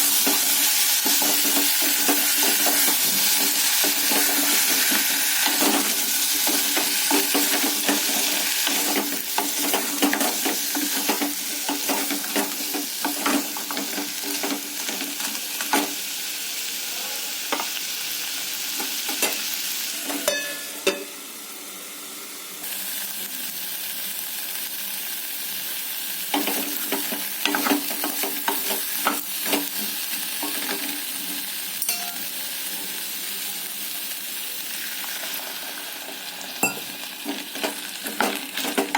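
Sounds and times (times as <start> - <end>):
pumpkin pieces sizzling in a pan: 0.0 - 38.9.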